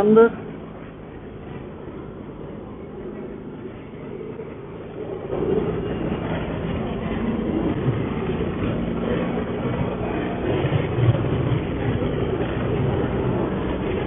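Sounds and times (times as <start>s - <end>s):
motorbike engine running: 0.0s - 14.0s
road and wind rumble: 0.0s - 14.0s.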